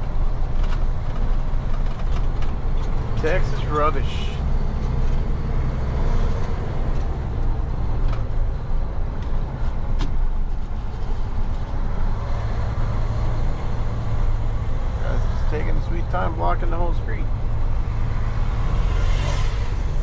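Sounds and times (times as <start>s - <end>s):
road noise: 0.0s - 20.0s
truck engine rumble: 0.0s - 20.0s.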